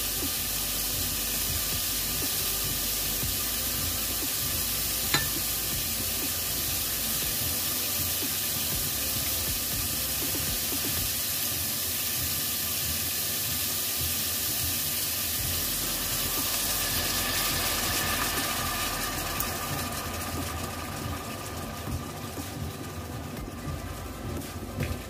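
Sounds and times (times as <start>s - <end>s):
meat sizzling in a saucepan: 0.0s - 25.0s.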